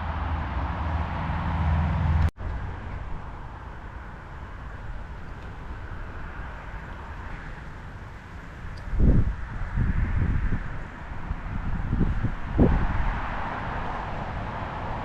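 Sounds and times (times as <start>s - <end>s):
traffic noise: 0.0s - 15.0s
vehicle engine hum: 0.0s - 15.0s
wind rumble on microphone: 0.0s - 15.0s.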